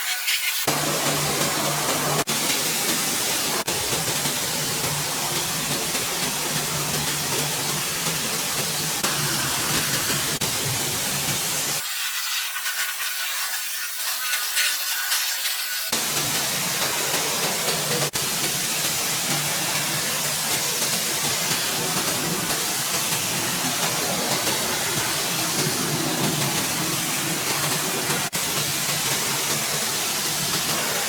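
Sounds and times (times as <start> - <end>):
cleaning spray hissing: 0.0 - 31.0.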